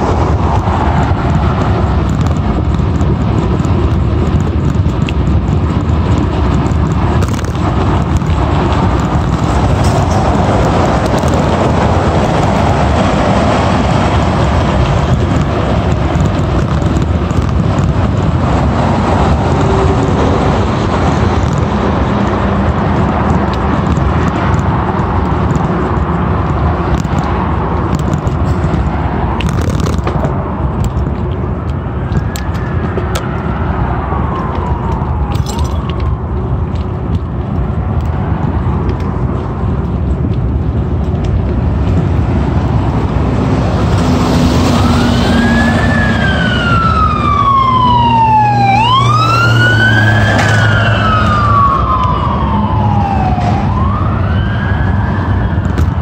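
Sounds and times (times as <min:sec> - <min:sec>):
road traffic: 0:00.0 - 0:56.0
wind buffeting microphone: 0:00.0 - 0:56.0.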